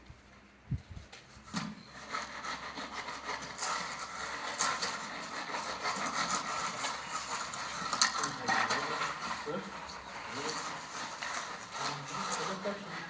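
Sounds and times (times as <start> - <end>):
rough scraping and rubbing: 1.2 - 13.0.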